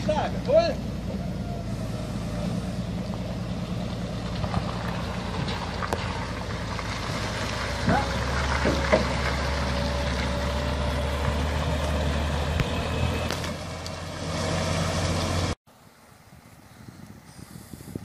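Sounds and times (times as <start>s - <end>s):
heavy truck engine droning: 0.0s - 15.6s.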